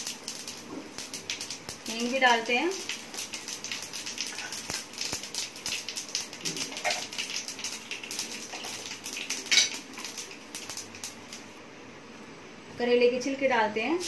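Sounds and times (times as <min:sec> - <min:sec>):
seeds crackling in hot oil: 0:00.0 - 0:11.7.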